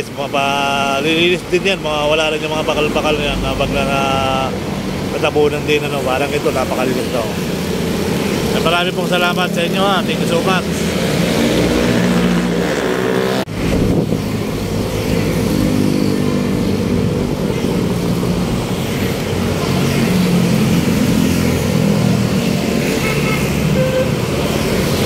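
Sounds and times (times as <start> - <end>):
heavy road traffic passing: 0.0 - 25.0.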